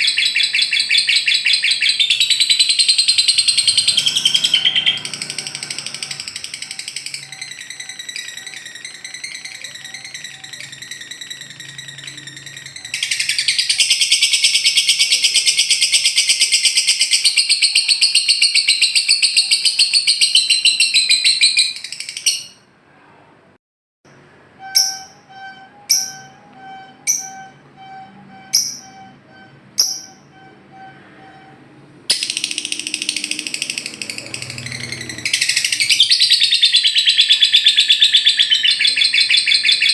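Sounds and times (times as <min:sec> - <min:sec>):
bird sharp chirps: 0:00.0 - 0:22.6, 0:24.6 - 0:31.5, 0:32.1 - 0:39.9
lovebird calling and trilling: 0:00.0 - 0:22.6, 0:24.6 - 0:31.5, 0:32.1 - 0:39.9.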